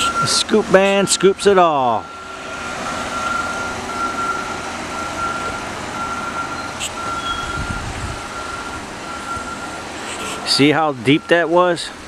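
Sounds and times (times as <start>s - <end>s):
reversing alarm beeping: 0.0s - 9.9s, 10.5s - 11.8s
diesel engine running: 0.0s - 12.0s.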